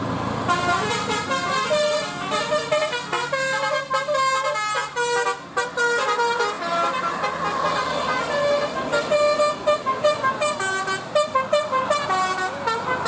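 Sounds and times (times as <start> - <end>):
melodic bus horn tune: 0.4 - 13.0.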